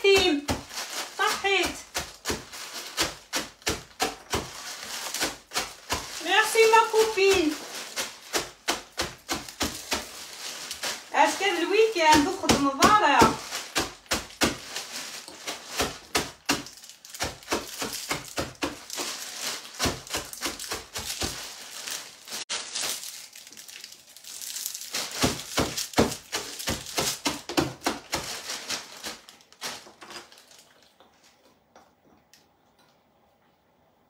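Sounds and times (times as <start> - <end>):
plastic bag crinkling: 0.0 - 31.4.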